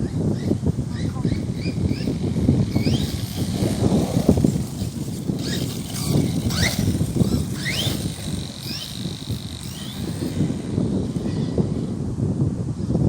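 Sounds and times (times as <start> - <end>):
electric motor whining in bursts: 0.0 - 12.5
wind noise on microphone: 0.0 - 13.0.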